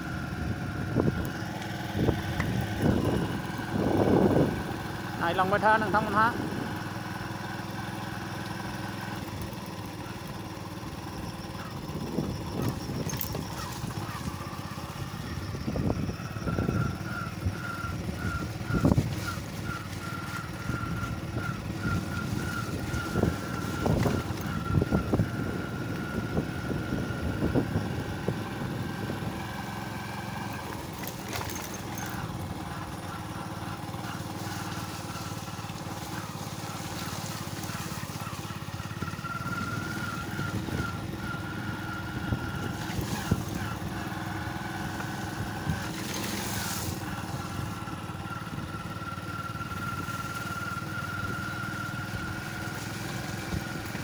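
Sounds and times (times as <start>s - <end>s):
vehicle driving on gravel road: 0.0s - 54.0s.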